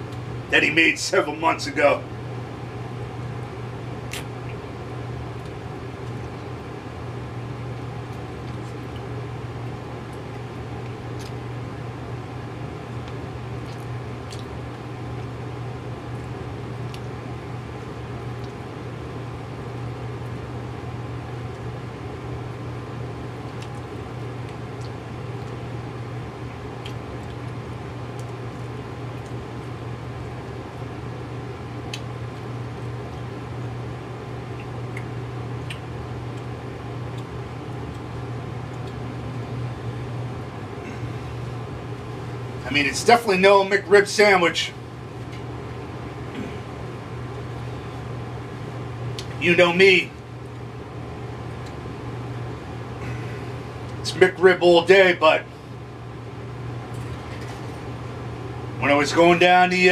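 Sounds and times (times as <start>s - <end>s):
microwave oven humming: 0.0s - 59.9s.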